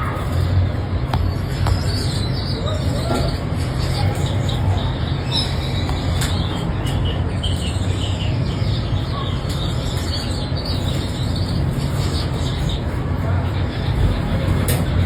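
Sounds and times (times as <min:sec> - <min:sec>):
finches chirping softly: 0:00.0 - 0:14.3
low rumbling background noise: 0:00.0 - 0:15.0.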